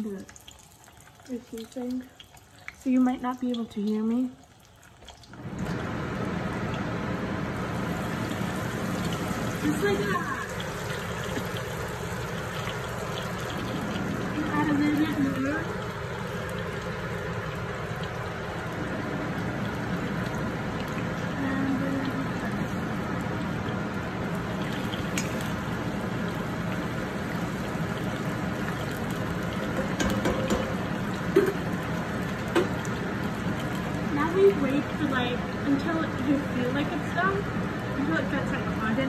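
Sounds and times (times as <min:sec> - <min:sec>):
fries sizzling in hot oil: 0:00.0 - 0:39.0.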